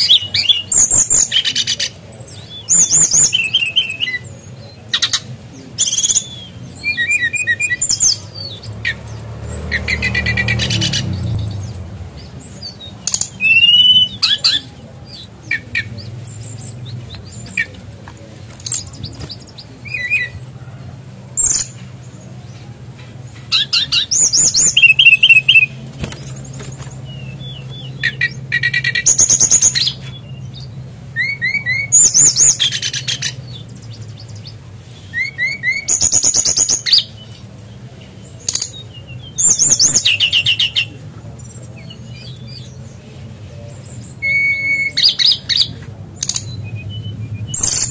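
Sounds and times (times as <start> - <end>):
songbird trilling: 0.0 - 17.9, 23.5 - 37.4, 38.2 - 47.9.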